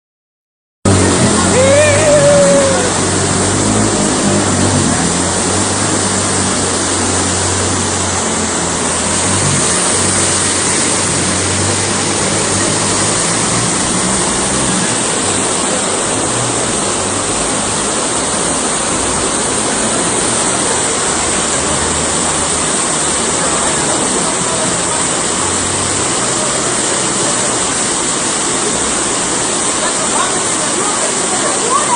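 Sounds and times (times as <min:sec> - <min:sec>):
water rushing: 0:00.9 - 0:31.9.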